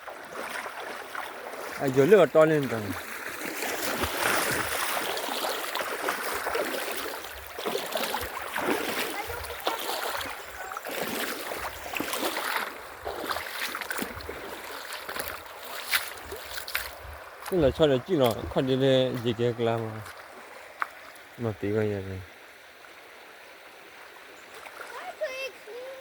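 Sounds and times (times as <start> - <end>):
running water splashing: 0.0 - 22.3, 23.9 - 26.0.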